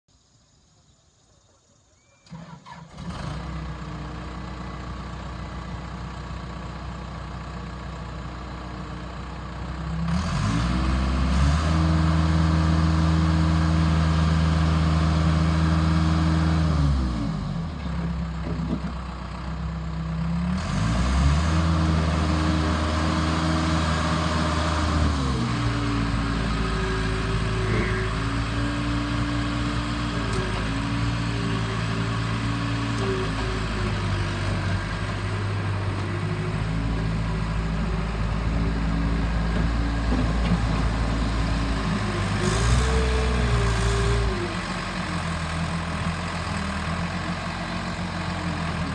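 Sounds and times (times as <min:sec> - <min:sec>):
diesel engine starting and revving: 0:02.2 - 0:48.9.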